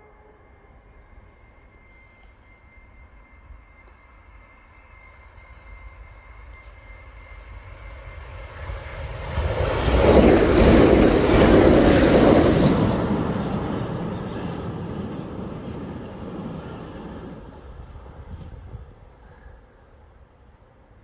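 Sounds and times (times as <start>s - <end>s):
passenger train passing on rails: 0.0s - 19.6s.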